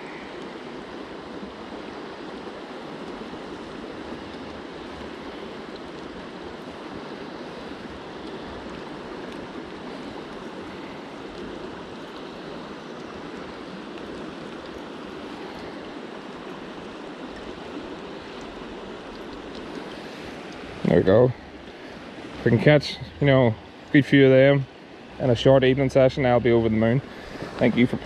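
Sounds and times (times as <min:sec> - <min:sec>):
shallow river flowing: 0:00.0 - 0:28.0.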